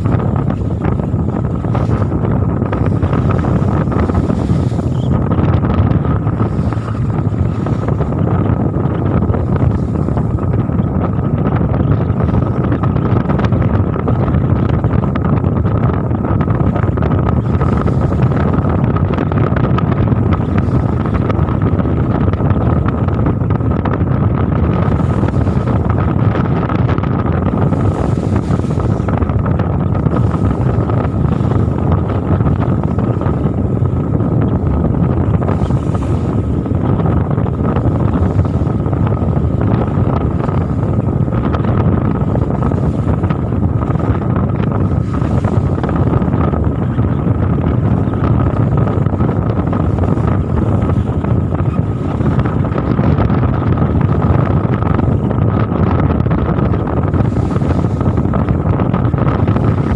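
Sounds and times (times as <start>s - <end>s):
boat machinery drone: 0.0s - 59.9s
wind buffeting microphone: 0.0s - 59.9s.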